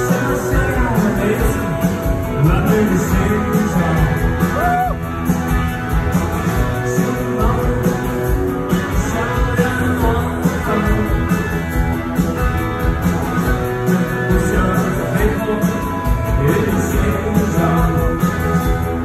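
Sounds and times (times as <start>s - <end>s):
bass guitar: 0.0s - 19.0s
drum kit: 0.0s - 19.0s
electric guitars: 0.0s - 19.0s.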